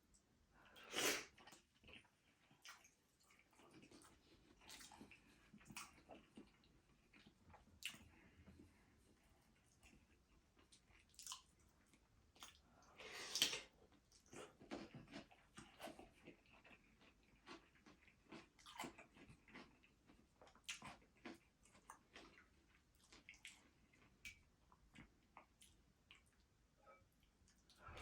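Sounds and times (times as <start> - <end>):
mouth sounds of eating: 0.6 - 26.5.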